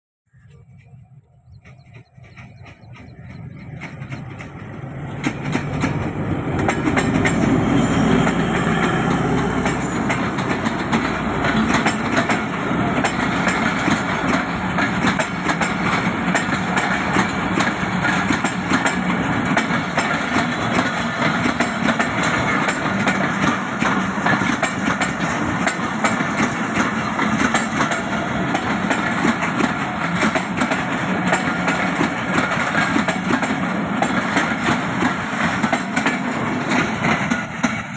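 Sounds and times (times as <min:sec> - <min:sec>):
diesel locomotive engine rumble: 0:00.3 - 0:37.9
train wheels clattering on rails: 0:01.4 - 0:37.9.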